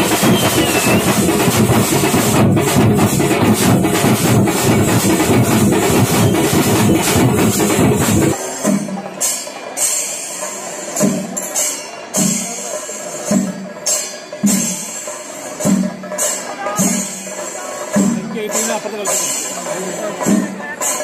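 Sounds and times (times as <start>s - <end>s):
cymbal clashes: 0.0s - 21.0s
drumming with sticks: 0.0s - 21.0s.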